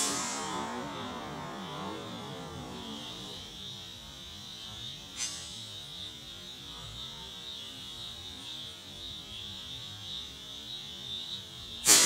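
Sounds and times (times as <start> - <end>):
high-pitched buzz: 0.0 - 12.0.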